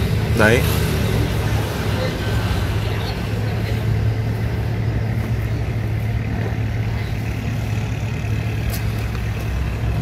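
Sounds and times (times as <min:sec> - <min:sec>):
boat diesel engine humming: 0:00.0 - 0:10.0.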